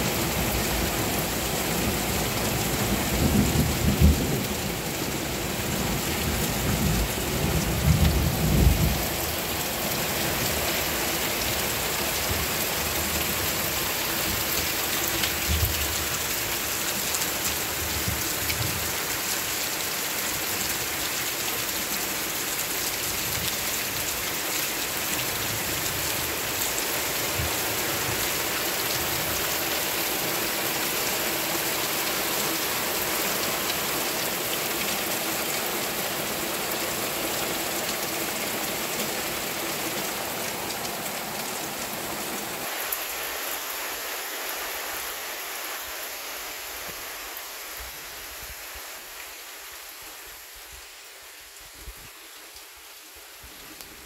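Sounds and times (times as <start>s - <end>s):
heavy rain on trees and grass: 0.0s - 54.0s.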